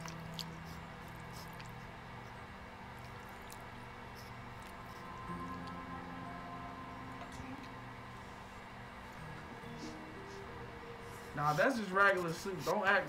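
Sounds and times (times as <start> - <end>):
low steady drone: 0.0 - 13.0.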